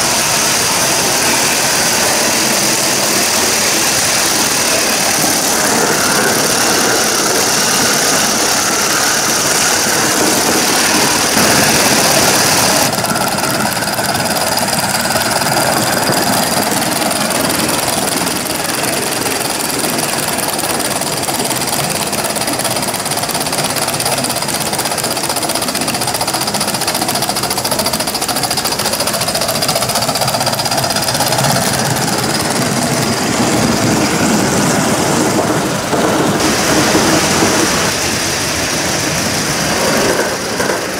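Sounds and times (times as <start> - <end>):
model steam locomotive running: 0.0 - 40.9
steam exhaust: 0.0 - 40.9
wheels rattling on track: 0.0 - 40.9.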